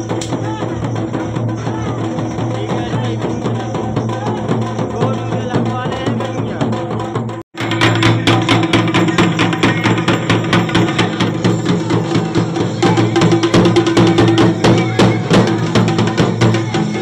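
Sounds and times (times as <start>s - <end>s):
drums beating: 0.0s - 17.0s
melody over drums: 0.0s - 17.0s.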